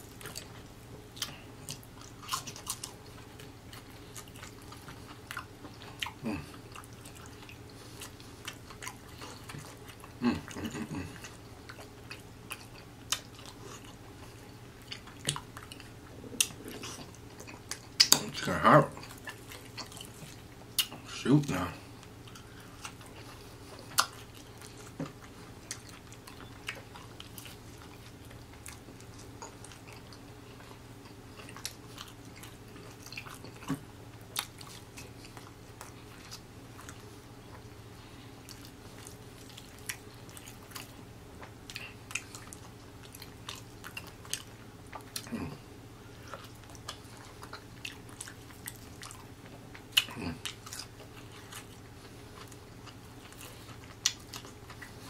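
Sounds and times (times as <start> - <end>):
chewing fried chicken: 0.0 - 55.0
steady low hum: 0.0 - 55.0.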